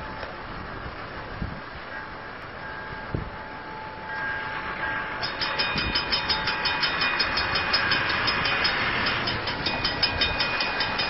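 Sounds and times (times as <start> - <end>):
level-crossing warning bell: 1.9 - 11.0.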